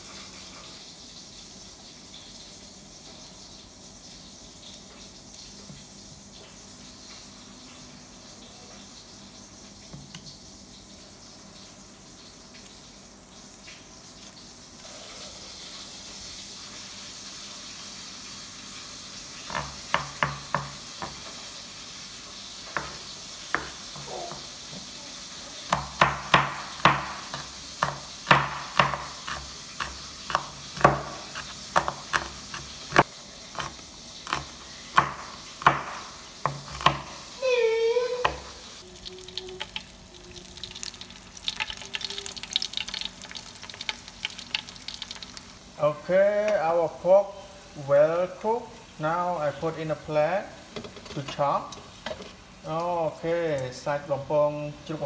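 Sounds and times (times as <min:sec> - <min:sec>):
meat sizzling in oil: 0:00.0 - 0:54.9.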